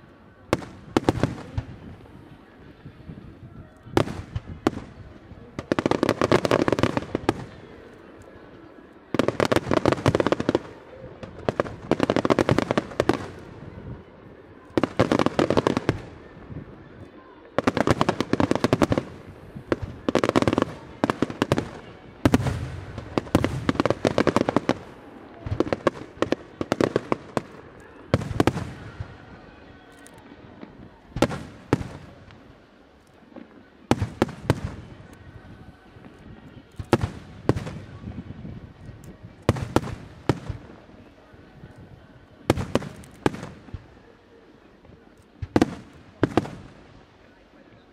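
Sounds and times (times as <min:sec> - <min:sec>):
fireworks crackling: 0:00.0 - 0:47.9.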